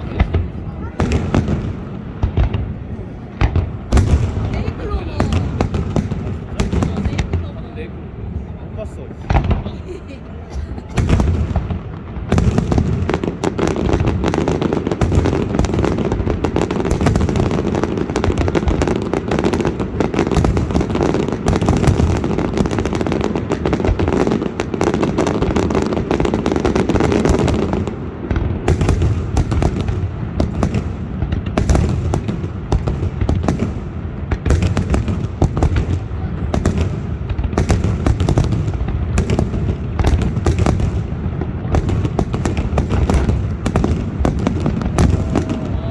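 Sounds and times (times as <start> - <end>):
fireworks booming bangs: 0.0 - 45.9
fireworks crackling and popping: 0.0 - 45.9.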